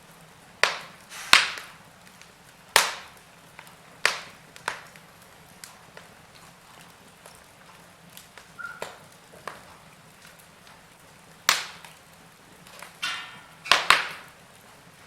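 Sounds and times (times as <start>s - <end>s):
log fire crackling: 0.0s - 15.0s
sharp pops of burning wood: 0.0s - 15.0s.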